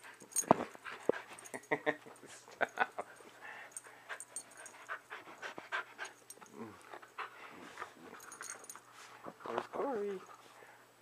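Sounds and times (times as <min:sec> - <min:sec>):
dogs panting: 0:00.0 - 0:01.7, 0:02.3 - 0:09.5.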